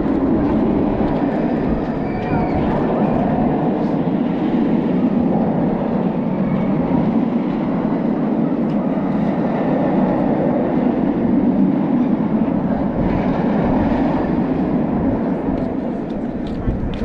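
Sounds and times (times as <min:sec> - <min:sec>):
roller coaster rumbling on track: 0:00.0 - 0:17.0.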